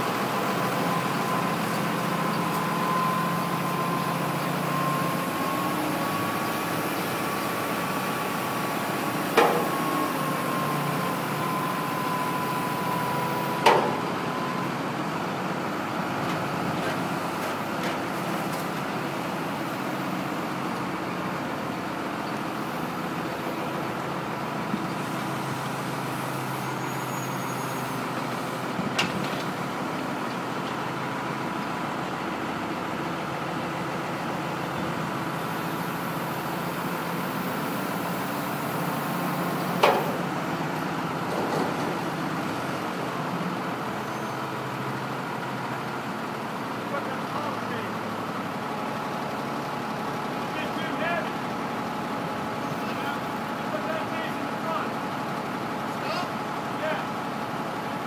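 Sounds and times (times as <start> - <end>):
heavy truck engine running: 0.0 - 58.0.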